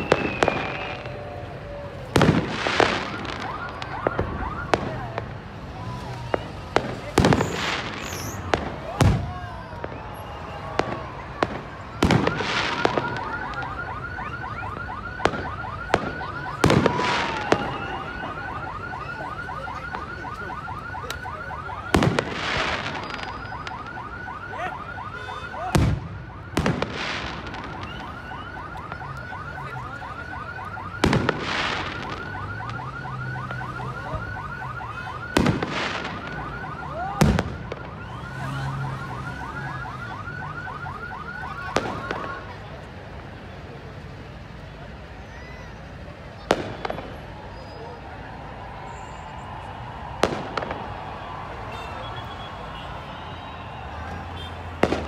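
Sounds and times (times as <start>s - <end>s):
crackling firework tails: 0.0s - 24.4s, 25.0s - 29.3s, 30.7s - 34.6s, 35.2s - 40.0s, 41.4s - 43.0s, 45.8s - 55.0s.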